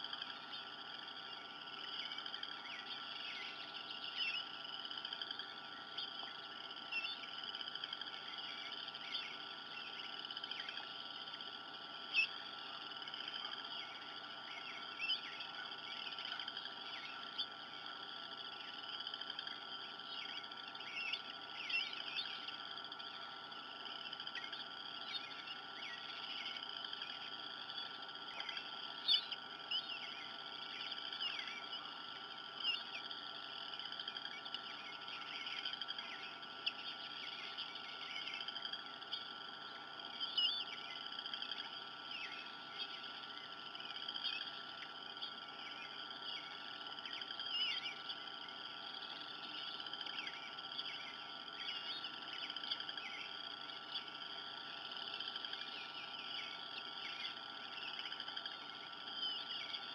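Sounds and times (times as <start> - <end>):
bird chirps: 0.0 - 59.9.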